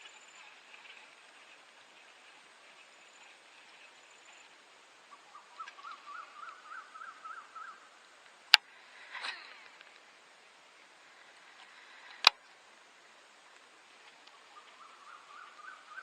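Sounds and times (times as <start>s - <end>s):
noisy rustle: 0.0s - 16.0s.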